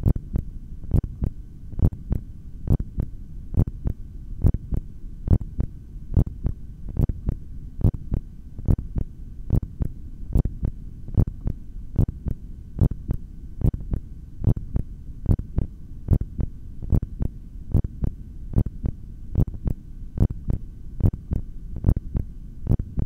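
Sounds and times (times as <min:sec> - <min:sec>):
heartbeat through stethoscope: 0:00.0 - 0:23.0
low rumble: 0:00.0 - 0:23.0.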